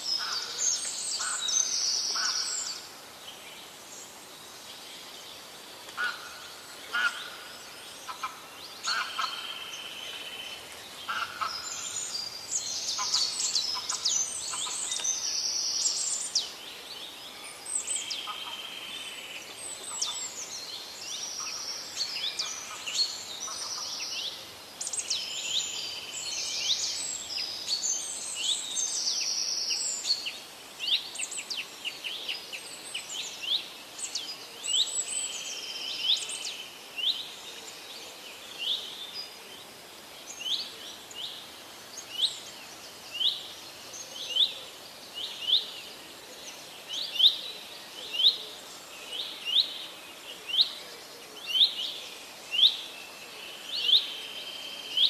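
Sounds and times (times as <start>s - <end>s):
faint steady hiss: 0.0s - 55.0s
forest birds singing: 0.0s - 55.0s.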